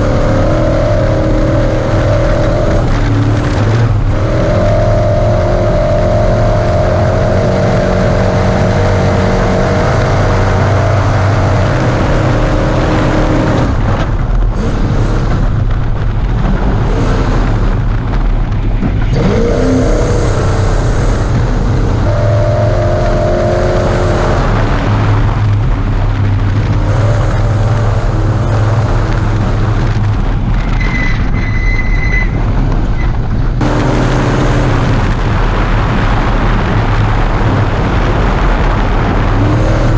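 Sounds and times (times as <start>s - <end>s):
heavy low rumble: 0.0s - 39.9s
truck engine revving: 0.0s - 39.9s.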